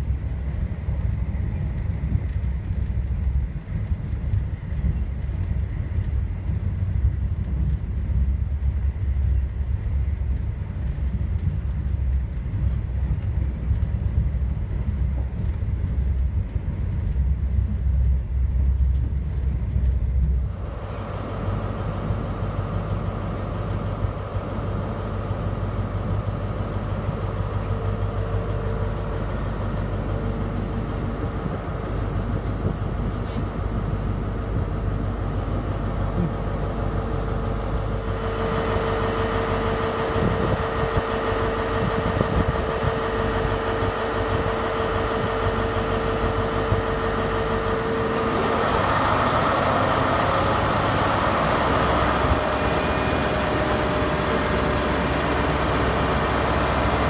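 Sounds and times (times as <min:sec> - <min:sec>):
diesel locomotive idling hum: 0:00.0 - 0:57.0
passenger train rumble: 0:00.0 - 0:57.0.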